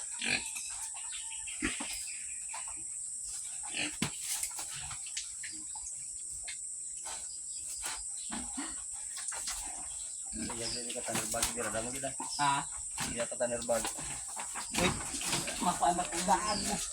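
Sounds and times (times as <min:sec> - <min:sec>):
pigs grunting: 0:00.0 - 0:05.8, 0:08.2 - 0:16.9.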